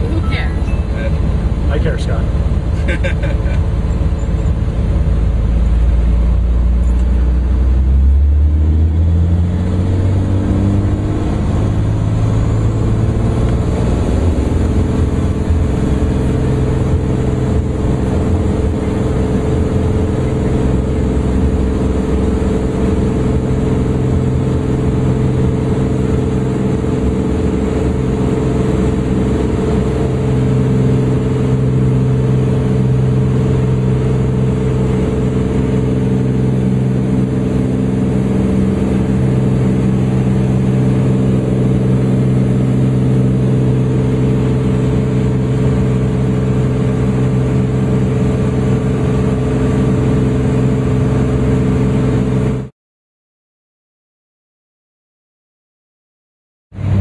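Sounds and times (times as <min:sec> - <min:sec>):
aircraft engine and propeller drone: 0:00.0 - 0:52.7, 0:56.8 - 0:57.0.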